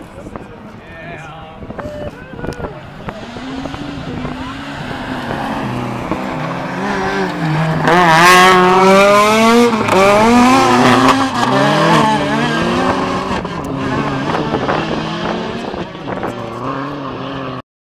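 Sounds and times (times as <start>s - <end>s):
rally car engines at full throttle: 0.0s - 17.6s.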